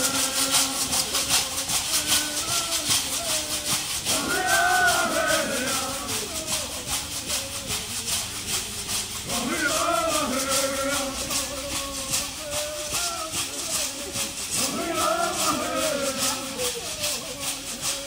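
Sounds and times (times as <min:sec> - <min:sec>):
man singing: 0:00.0 - 0:18.0
shell shakers rattling: 0:00.0 - 0:18.0.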